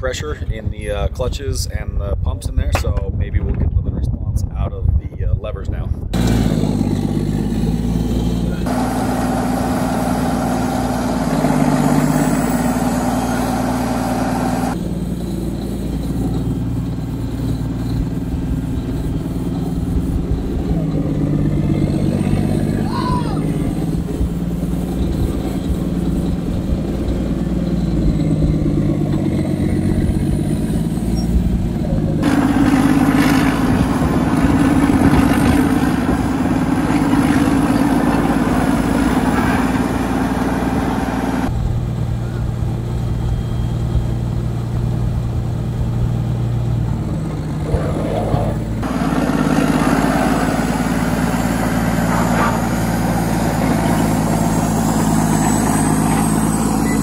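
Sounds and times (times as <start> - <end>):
bulldozer diesel engine running: 6.1 - 57.0.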